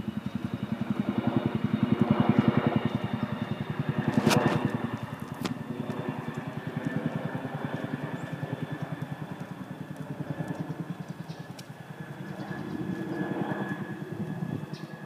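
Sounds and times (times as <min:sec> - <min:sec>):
engine running with faint whine: 0:00.0 - 0:15.0.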